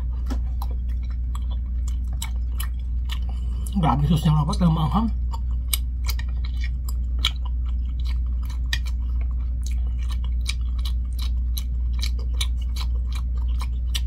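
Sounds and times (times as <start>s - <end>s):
steady low hum: 0.0s - 14.0s
wet mouth chewing clicks: 0.6s - 3.8s, 5.2s - 14.0s.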